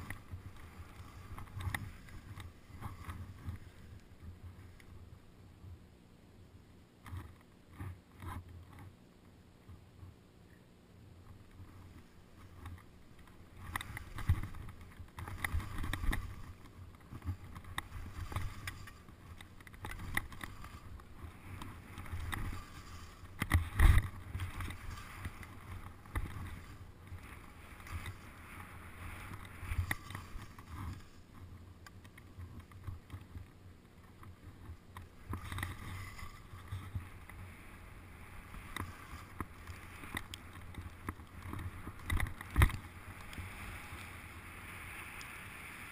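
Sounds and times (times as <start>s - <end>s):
skis scraping over snow: 0.0s - 5.2s, 11.5s - 45.9s.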